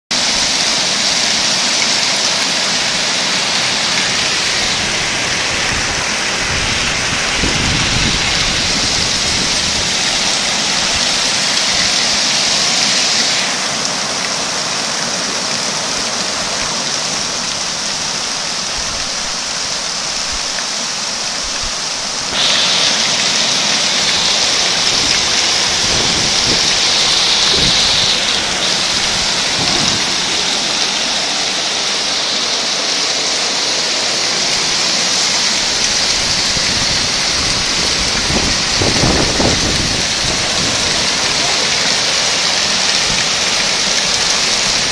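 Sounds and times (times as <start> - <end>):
floodwater rushing: 0.1 - 44.9
heavy rain pouring: 0.1 - 44.9.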